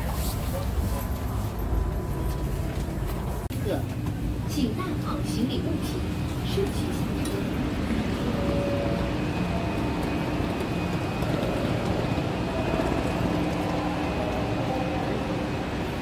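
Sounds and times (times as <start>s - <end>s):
railway station platform rumble: 0.0s - 16.0s.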